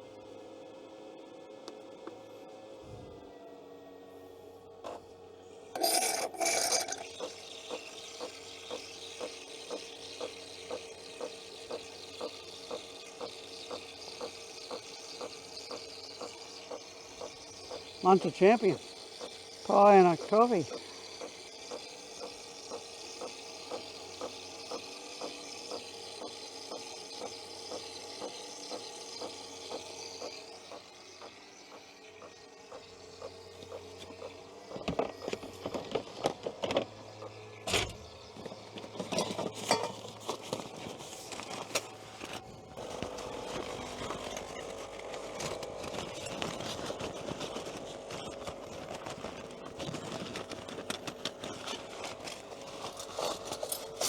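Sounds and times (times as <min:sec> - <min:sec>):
coffee machine humming: 0:00.0 - 0:54.0.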